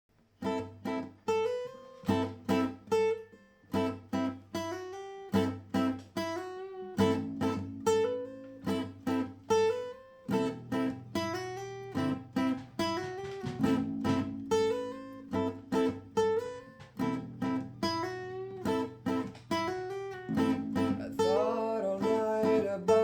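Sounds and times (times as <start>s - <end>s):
acoustic guitar strumming chords: 0.4s - 23.0s.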